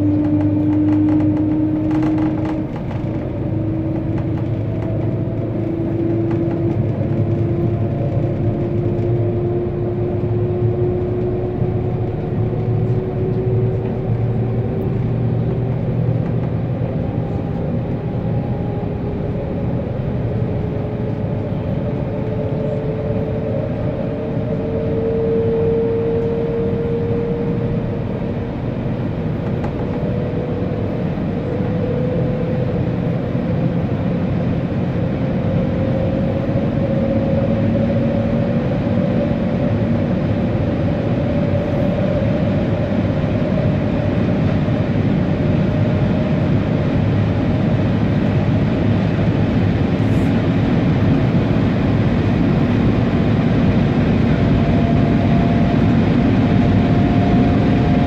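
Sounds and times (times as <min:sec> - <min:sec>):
rising train whine: 0:00.0 - 0:58.0
train rumble and rush: 0:00.0 - 0:58.0.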